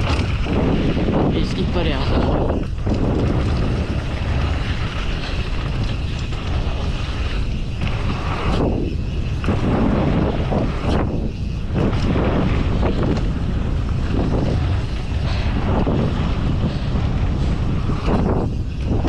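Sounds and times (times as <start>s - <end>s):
tyre and trail noise: 0.0s - 19.0s
wind buffeting microphone: 0.0s - 19.0s.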